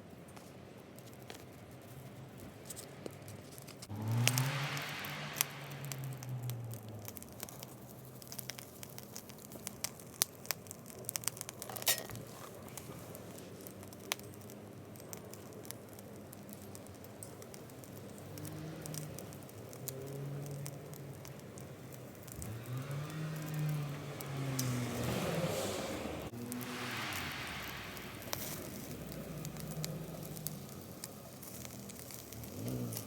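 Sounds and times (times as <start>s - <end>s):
wood fire crackling and popping: 0.2s - 33.0s
faint sizzle: 3.6s - 33.0s.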